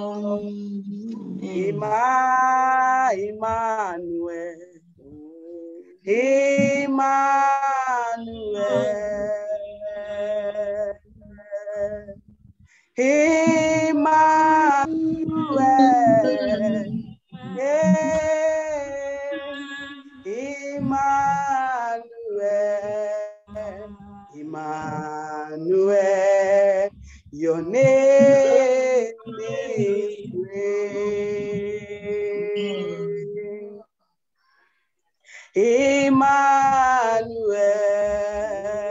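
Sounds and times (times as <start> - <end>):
woman singing worship song: 0.0 - 12.2, 13.0 - 33.8, 35.6 - 38.9.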